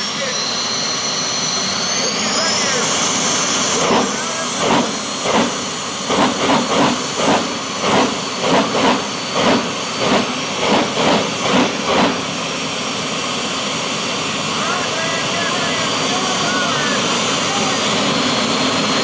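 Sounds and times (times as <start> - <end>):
high whine: 0.0 - 19.0
turbine engine hissing and chuffing: 0.0 - 19.0.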